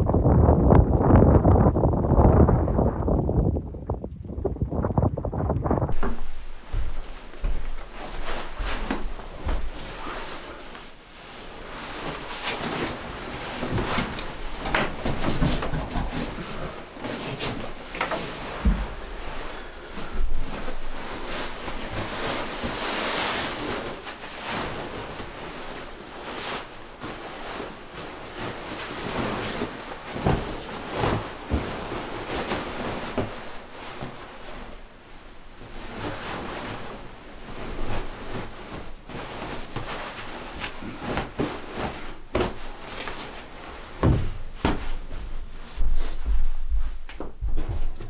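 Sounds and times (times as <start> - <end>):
fabric rustling: 5.8 - 48.0.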